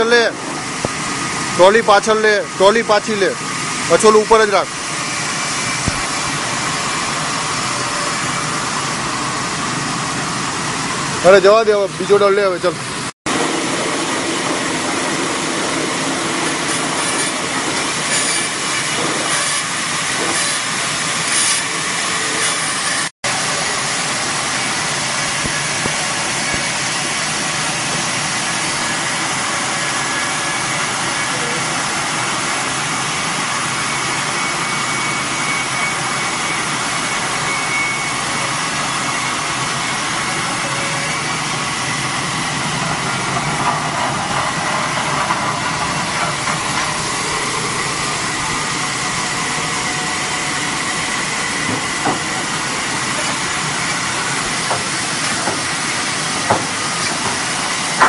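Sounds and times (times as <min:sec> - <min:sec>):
mechanical running noise with hiss: 0:00.0 - 0:58.0.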